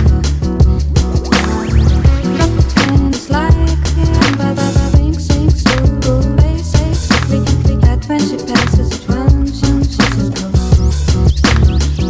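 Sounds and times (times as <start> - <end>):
background music with beat and bass: 0.0 - 12.0.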